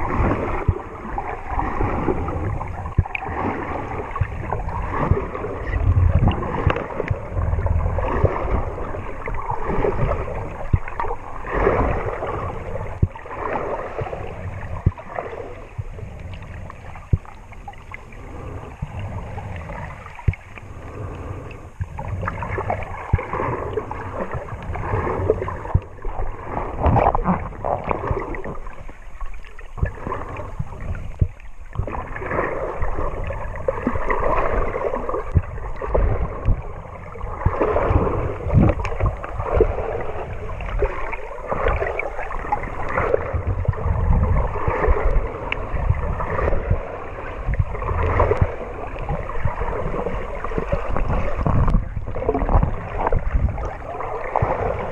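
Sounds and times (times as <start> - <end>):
muffled underwater sloshing: 0.0 - 54.9.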